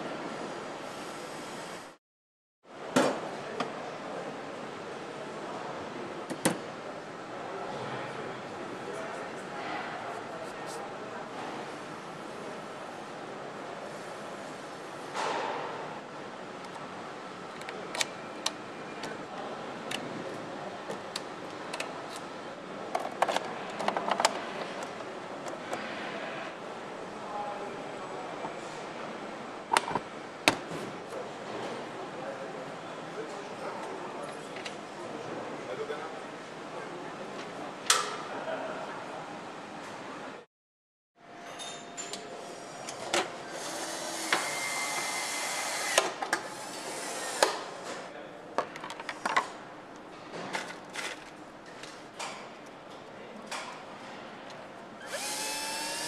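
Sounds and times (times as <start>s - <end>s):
factory hum: 2.7s - 40.4s, 41.2s - 56.0s.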